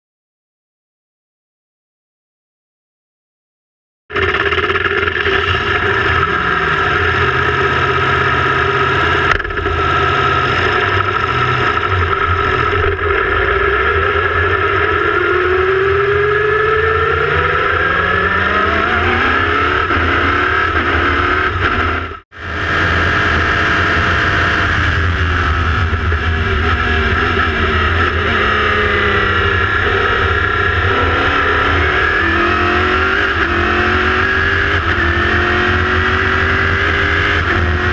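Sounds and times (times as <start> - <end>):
race car engine revving: 4.1 - 37.9.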